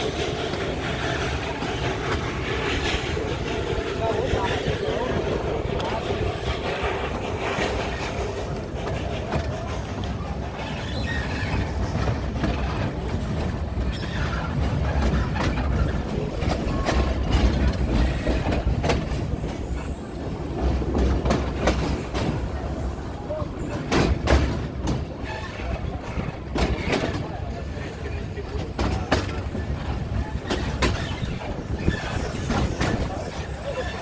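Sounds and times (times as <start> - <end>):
steam train rumbling: 0.0 - 34.0
wheels clicking over rail joints: 0.0 - 34.0.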